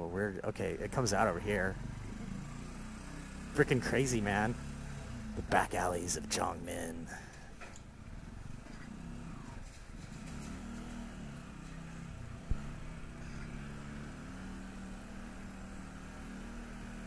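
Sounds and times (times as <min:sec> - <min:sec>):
motorcycle engine running: 0:00.5 - 0:17.0.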